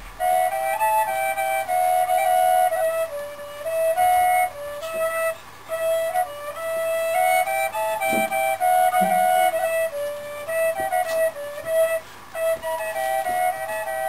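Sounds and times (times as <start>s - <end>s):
wooden double flute melody: 0.0s - 14.0s.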